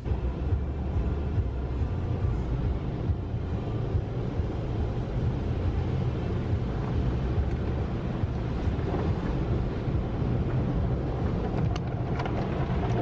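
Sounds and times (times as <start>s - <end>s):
car wash machinery rumble: 0.0s - 13.0s
water spraying on windshield: 0.3s - 13.0s.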